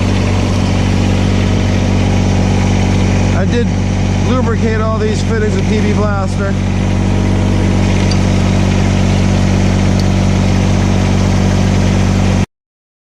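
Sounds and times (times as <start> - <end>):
tractor diesel engine running: 0.0 - 12.4.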